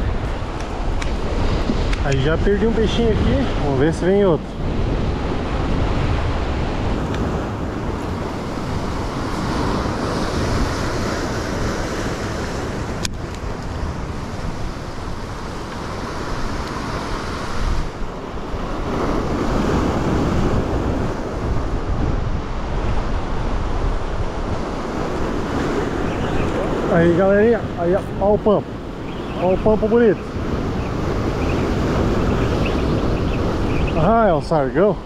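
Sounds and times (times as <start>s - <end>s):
surf washing over rocks: 0.0s - 35.0s
wind buffeting microphone: 0.0s - 35.0s.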